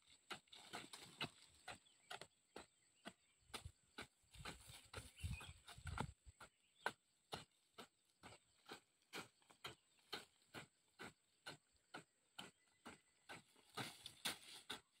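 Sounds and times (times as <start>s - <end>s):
hoe chopping into dry soil: 0.1s - 15.0s.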